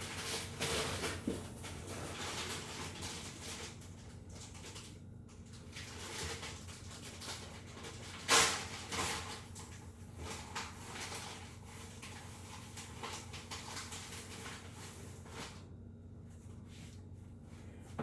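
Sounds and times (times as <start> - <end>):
items clicking and rustling on counter: 0.0 - 15.6.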